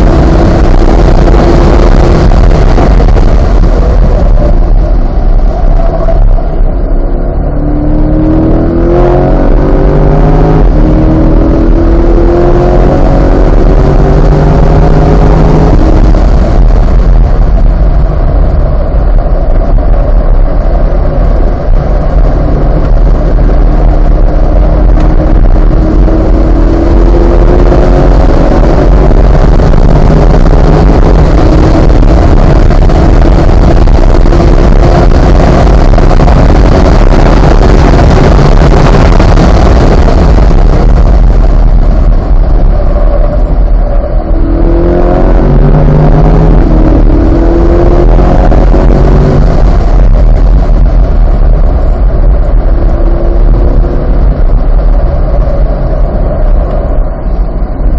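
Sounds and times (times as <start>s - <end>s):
sports car engine revving: 0.0s - 57.7s
steady rushing noise: 0.0s - 57.9s.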